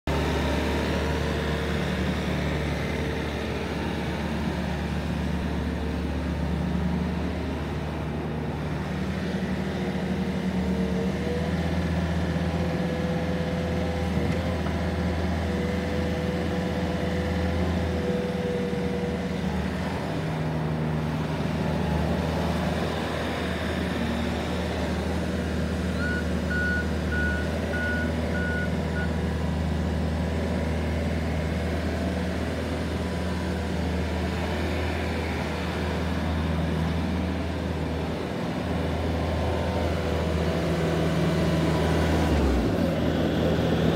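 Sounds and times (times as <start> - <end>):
loader diesel engine running: 0.1 - 43.9.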